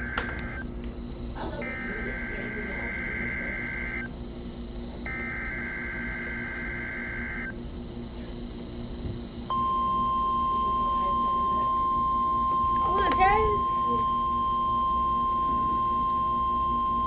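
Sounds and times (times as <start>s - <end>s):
steady alarm tone: 0.0s - 17.0s.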